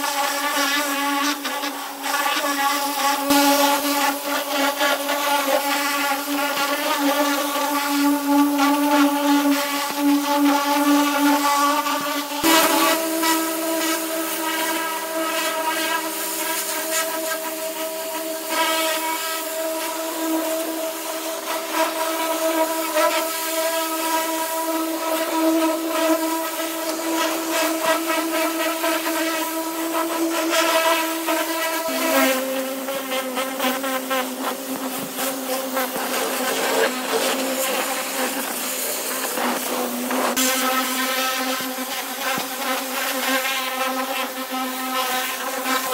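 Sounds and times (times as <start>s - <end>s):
pressure washer jet hissing: 0.0s - 43.4s.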